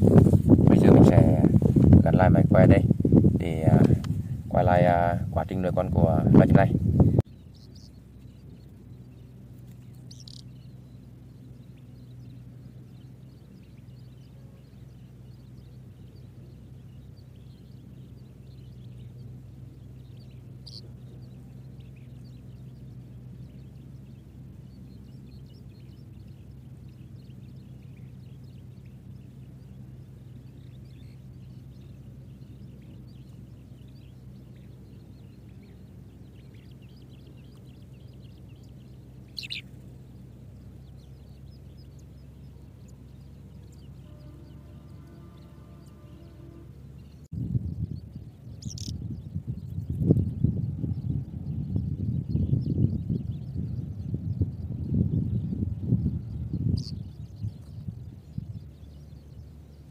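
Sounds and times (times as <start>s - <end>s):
bird chirps: 0.0s - 59.9s
sharp bird calls: 0.0s - 59.9s
steady low hum: 0.0s - 59.9s.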